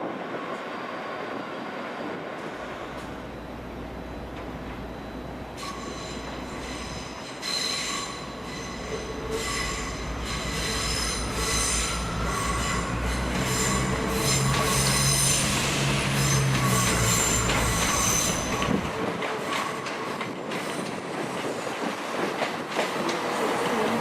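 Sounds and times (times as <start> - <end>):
train wheels squealing on rails: 0.1 - 3.2, 5.0 - 21.8, 22.8 - 24.0.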